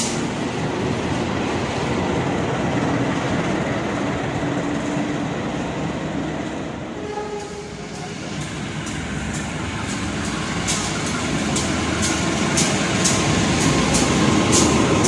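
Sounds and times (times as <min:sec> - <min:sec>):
wheels rumbling on track: 0:00.0 - 0:15.0.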